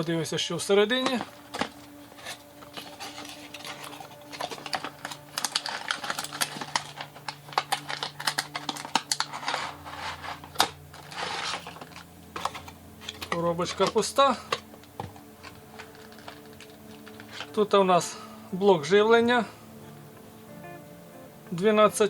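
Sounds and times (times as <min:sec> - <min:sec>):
cardboard and plastic packaging rustling: 0:00.0 - 0:19.6.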